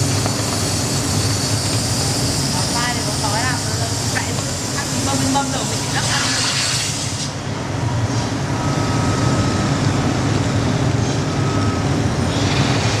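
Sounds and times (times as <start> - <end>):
workshop machinery humming: 0.0 - 13.0.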